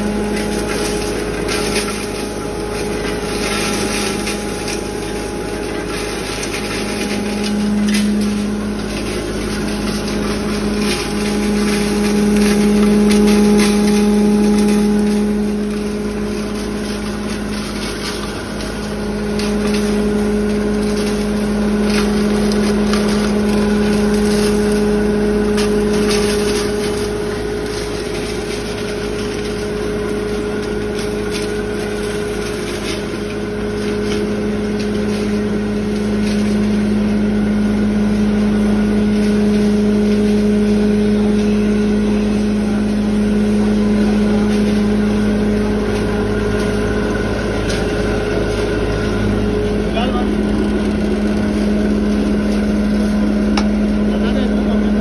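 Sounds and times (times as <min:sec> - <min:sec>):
grinding mill motor drone: 0:00.0 - 0:55.0.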